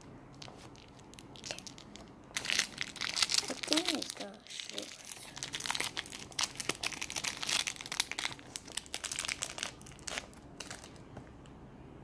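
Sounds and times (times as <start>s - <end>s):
plastic packet crackling: 0.3s - 11.0s.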